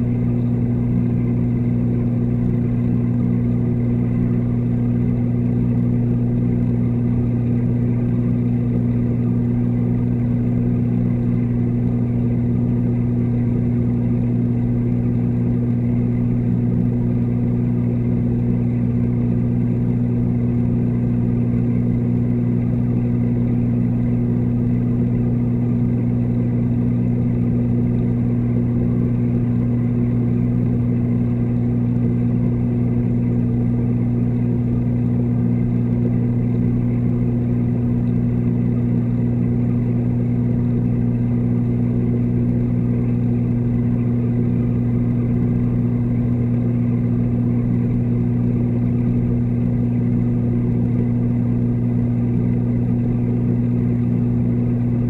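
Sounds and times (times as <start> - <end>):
aquarium pumps humming underwater: 0.0 - 55.0.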